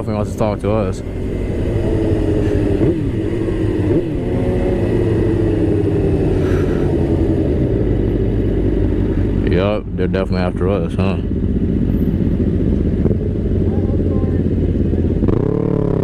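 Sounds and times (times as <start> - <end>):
low wind rumble: 0.0 - 16.0
motorcycle engine running: 0.0 - 16.0.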